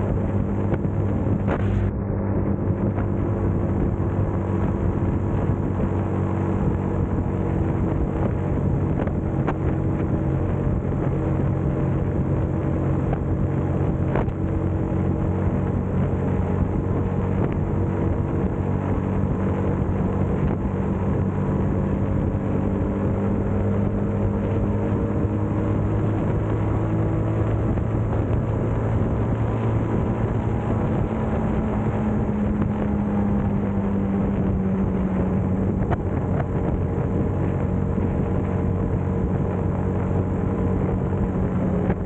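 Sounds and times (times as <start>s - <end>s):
motorcycle engine cruising: 0.0s - 42.0s
wind and road noise: 0.0s - 42.0s.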